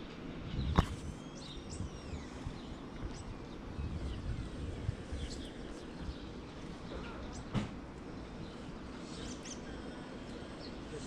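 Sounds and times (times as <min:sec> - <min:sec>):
low outdoor rumble: 0:00.0 - 0:11.0
small birds chirping: 0:00.4 - 0:11.0.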